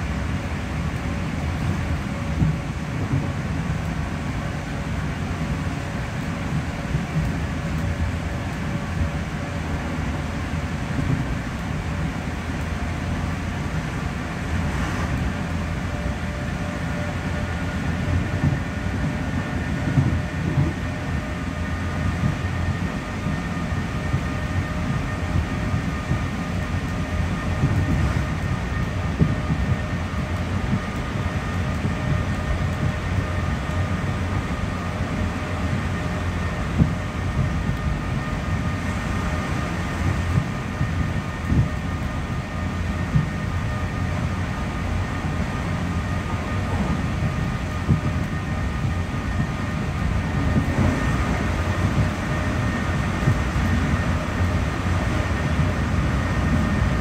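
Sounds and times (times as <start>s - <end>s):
train motor whine: 0.0s - 57.0s
wheels rumbling on track: 0.0s - 57.0s.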